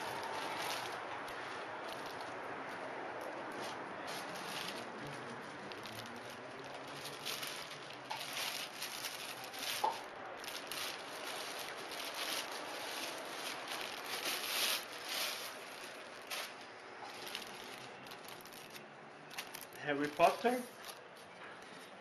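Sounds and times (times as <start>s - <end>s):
plastic film crinkling: 0.0s - 21.8s.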